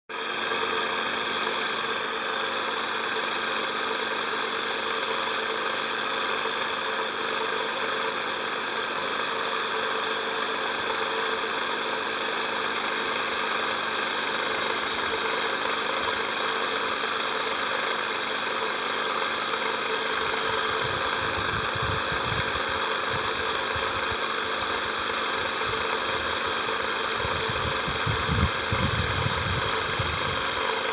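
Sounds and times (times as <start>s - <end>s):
mechanical hum with hiss: 0.3s - 30.9s.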